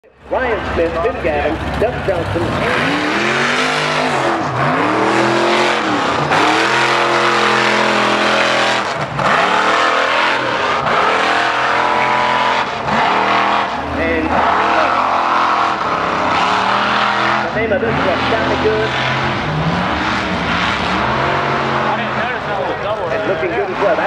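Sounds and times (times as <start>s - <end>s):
truck engine revving hard: 0.3s - 24.0s.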